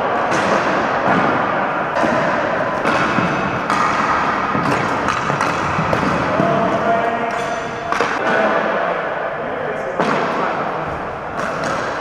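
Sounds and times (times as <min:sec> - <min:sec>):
hockey sticks and ball knocking: 0:00.2 - 0:08.5, 0:10.0 - 0:10.6, 0:11.2 - 0:12.0.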